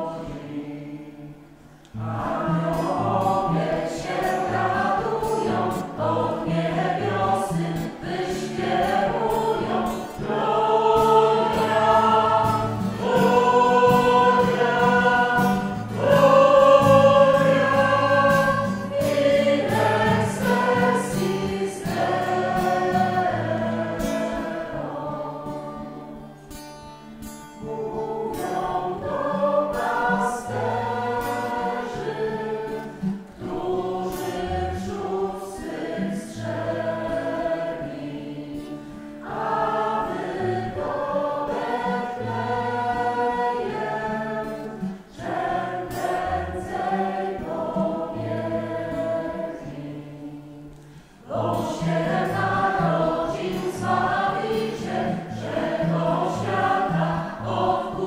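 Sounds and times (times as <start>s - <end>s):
small mixed choir singing: 0.0s - 58.0s.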